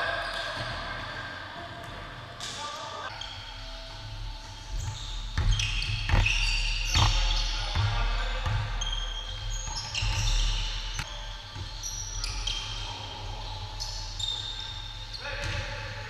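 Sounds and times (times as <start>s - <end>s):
sneaker squeaks: 1.8s - 16.0s.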